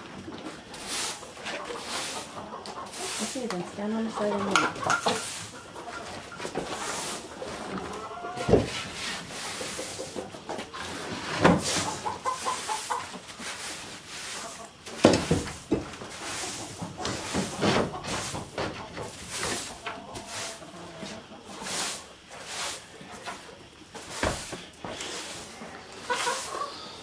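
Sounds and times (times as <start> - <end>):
chickens clucking: 0.0 - 27.0
footsteps rustling in wood chips: 0.4 - 26.8.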